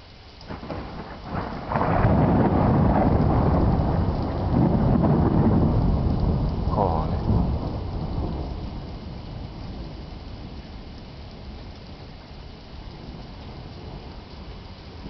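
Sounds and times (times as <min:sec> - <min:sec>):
rain falling: 0:00.0 - 0:15.0
thunder rumbling: 0:00.5 - 0:15.0.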